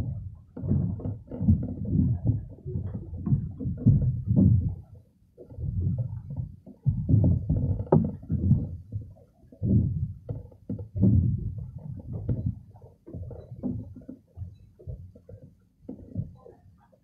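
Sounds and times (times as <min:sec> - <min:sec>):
water slapping against dock: 0:00.0 - 0:16.6.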